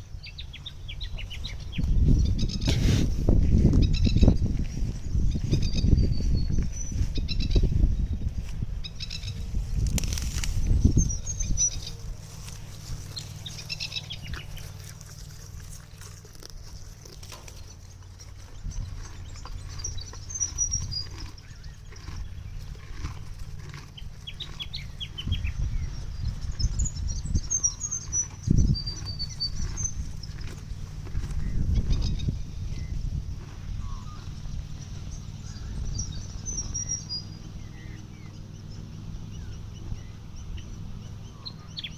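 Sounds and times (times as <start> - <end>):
small birds chirping: 0.0 - 41.9
steady low rumble: 0.0 - 41.9.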